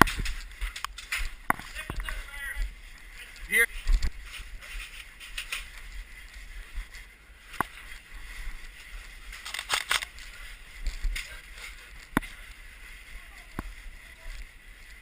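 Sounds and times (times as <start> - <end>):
crackling clicks: 0.0 - 12.6
faint rustling: 0.0 - 15.0.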